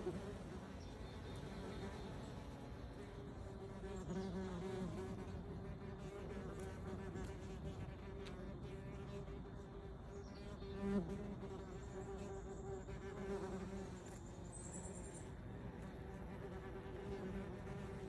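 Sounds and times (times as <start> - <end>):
wasp wings buzzing: 0.0 - 18.0.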